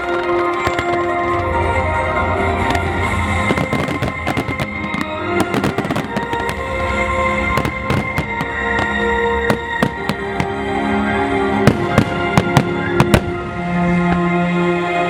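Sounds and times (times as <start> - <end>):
fireworks bangs and crackles: 0.0 - 14.2.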